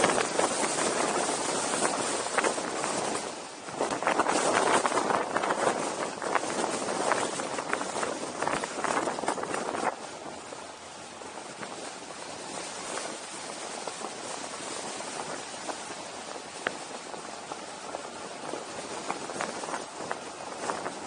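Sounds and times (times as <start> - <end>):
wind over microphone: 0.0 - 21.0.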